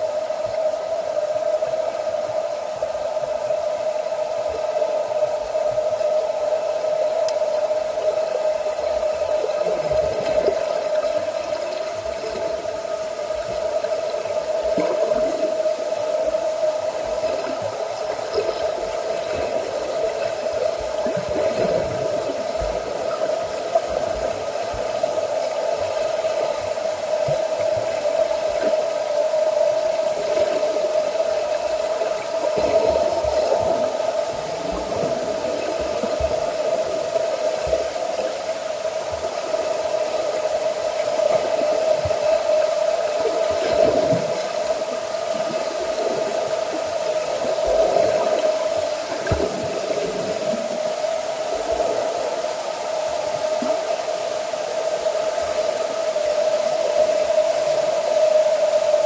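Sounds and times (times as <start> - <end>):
water noise: 0.0 - 59.0.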